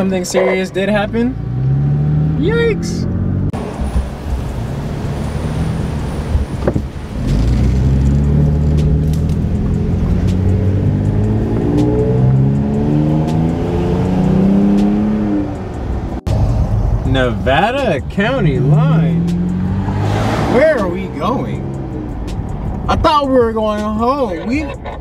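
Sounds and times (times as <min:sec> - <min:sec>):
road noise inside cabin: 0:00.0 - 0:25.0
vehicle engine: 0:00.0 - 0:25.0.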